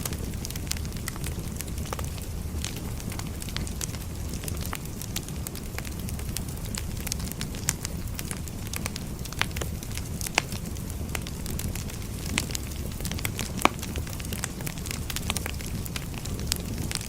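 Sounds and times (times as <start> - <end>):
firewood burning and crackling: 0.0 - 17.0
sharp pops of fire: 0.0 - 17.0.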